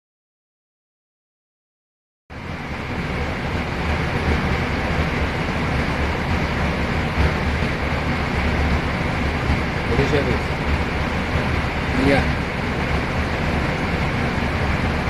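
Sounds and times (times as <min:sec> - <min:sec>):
low engine drone: 0:02.3 - 0:15.0
rush of airflow: 0:02.3 - 0:15.0.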